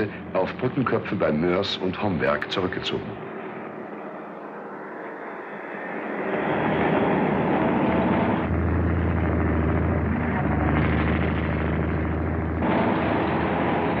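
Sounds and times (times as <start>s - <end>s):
rattling vehicle engines: 0.0s - 14.0s.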